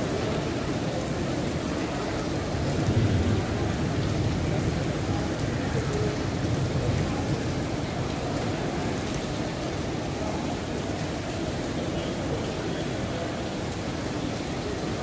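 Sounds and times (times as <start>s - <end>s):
rain on paving: 0.0s - 15.0s.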